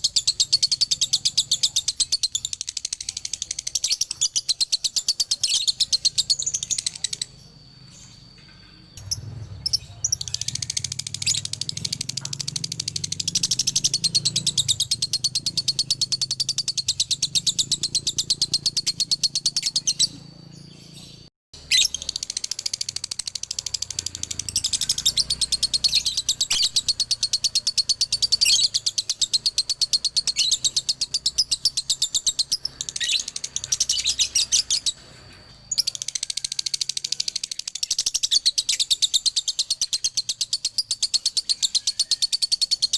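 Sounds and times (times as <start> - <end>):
lovebird chattering chirps: 0.0 - 42.9.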